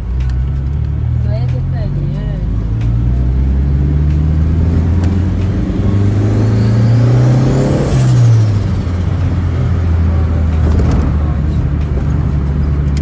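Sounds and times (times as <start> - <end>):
turbocharged engine running: 0.0 - 13.0.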